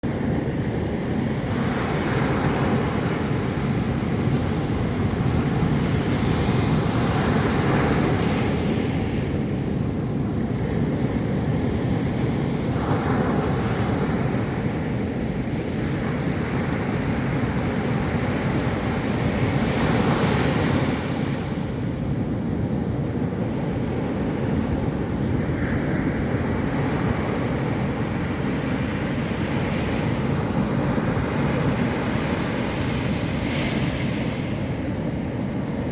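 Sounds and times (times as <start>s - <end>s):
ocean waves breaking: 0.0s - 35.9s
wind buffeting microphone: 0.0s - 35.9s.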